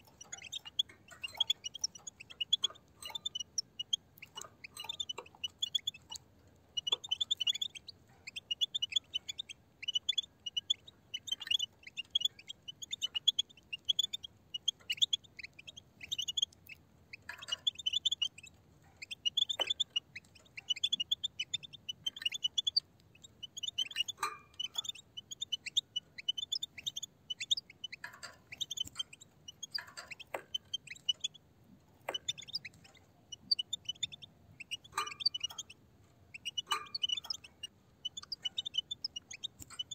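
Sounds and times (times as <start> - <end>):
finches twittering: 0.0 - 6.2, 6.8 - 31.4, 32.0 - 39.9.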